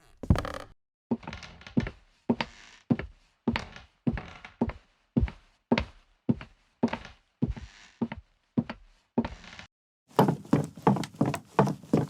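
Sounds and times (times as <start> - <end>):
footsteps on wooden floor: 1.8 - 12.0.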